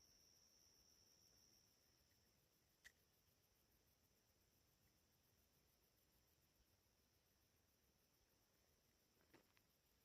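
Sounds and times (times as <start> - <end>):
faint high-pitched tone: 0.0 - 9.1.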